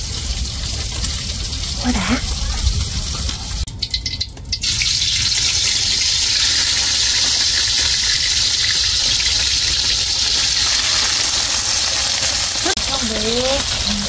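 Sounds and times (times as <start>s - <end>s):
fish frying in oil: 0.0s - 14.0s.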